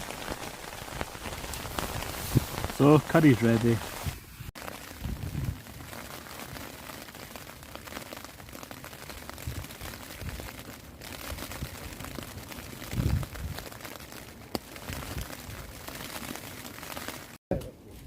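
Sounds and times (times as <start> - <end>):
rain pattering: 0.0 - 17.4.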